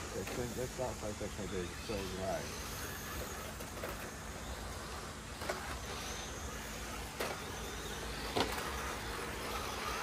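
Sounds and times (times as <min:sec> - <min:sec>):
rc car motor and tyre noise: 0:00.0 - 0:10.0.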